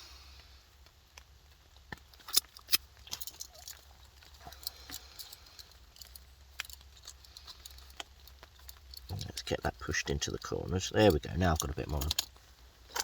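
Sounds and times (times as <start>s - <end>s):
cooking gear clicking and tapping: 0.8s - 13.0s.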